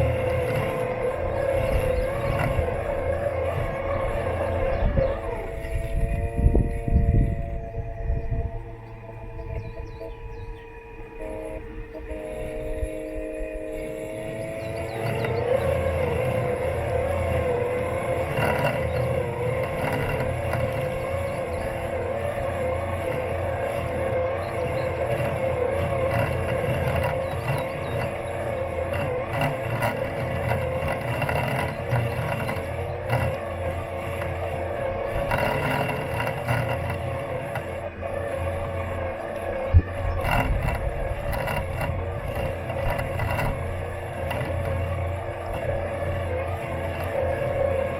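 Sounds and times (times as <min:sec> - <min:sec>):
robot lawn mower motors whining: 0:00.0 - 0:47.9.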